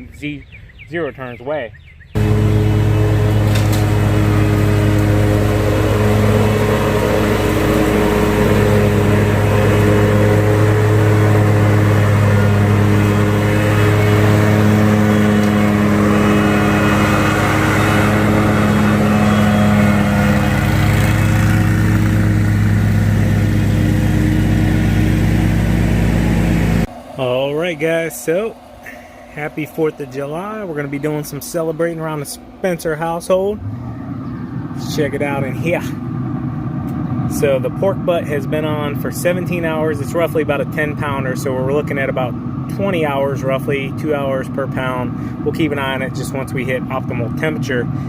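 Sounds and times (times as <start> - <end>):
mower engine droning: 2.2 - 48.0.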